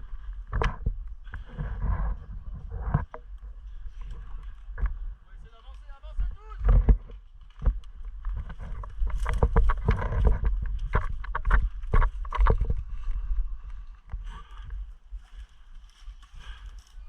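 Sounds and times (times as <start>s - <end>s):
low rumble of movement: 0.0s - 17.0s.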